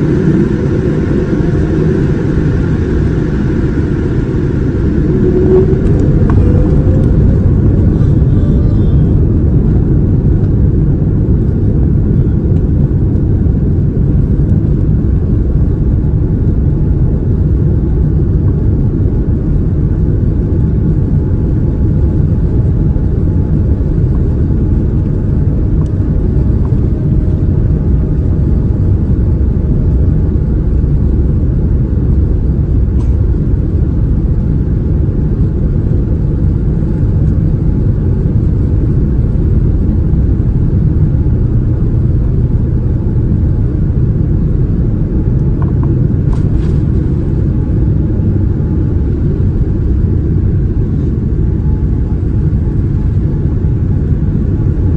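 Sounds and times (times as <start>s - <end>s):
airliner engine and airflow rumble: 0.0s - 54.9s.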